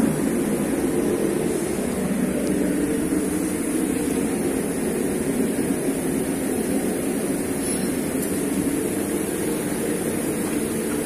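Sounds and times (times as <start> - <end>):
machinery humming and whirring: 0.0 - 11.0.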